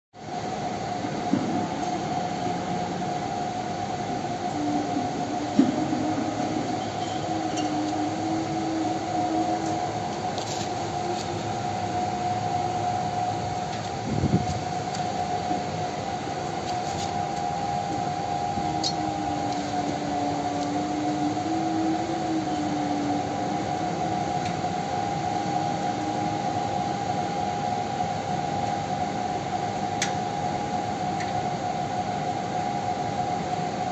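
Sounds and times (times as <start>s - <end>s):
electric fan whirring: 0.2s - 33.9s.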